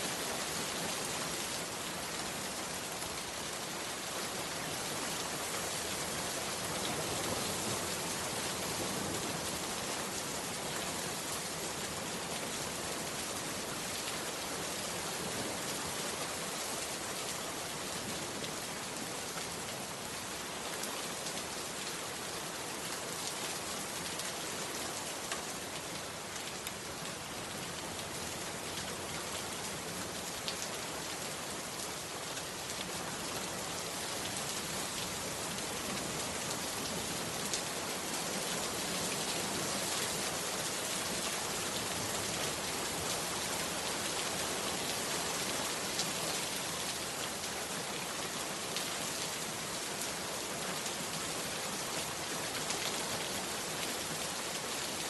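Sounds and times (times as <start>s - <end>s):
heavy rain on hut roof: 0.0s - 55.0s.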